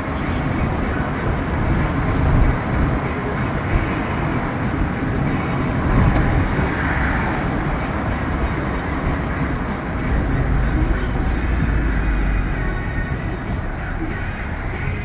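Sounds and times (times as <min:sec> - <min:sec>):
car engine running: 0:00.0 - 0:15.0
tyres rumbling on road: 0:00.0 - 0:15.0.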